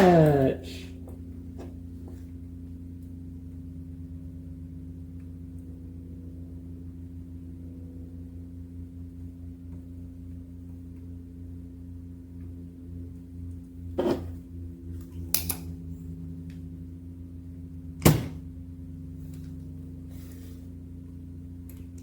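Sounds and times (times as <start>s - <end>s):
steady low pitched hum: 0.0s - 22.0s.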